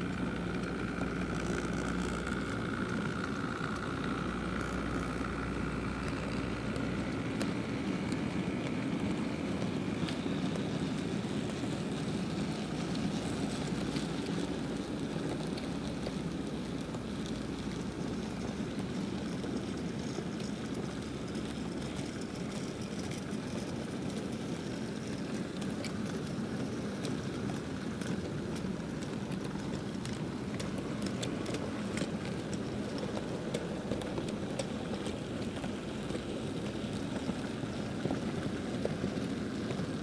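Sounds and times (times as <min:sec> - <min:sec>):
model train wagon rolling on track: 0:00.0 - 0:40.0.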